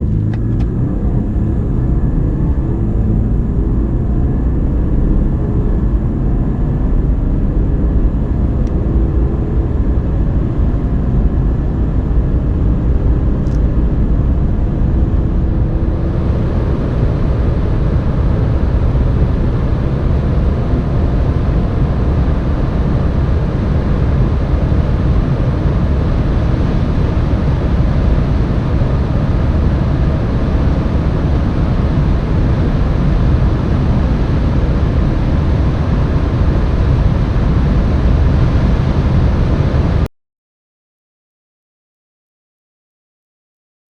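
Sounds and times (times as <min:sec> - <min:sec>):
car accelerating hard: 0:00.0 - 0:40.1.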